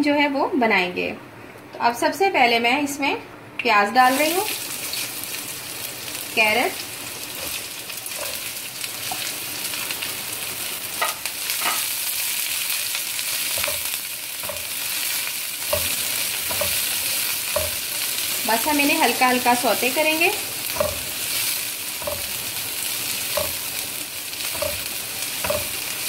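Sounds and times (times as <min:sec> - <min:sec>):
vegetables sizzling in hot oil: 0:04.0 - 0:26.0.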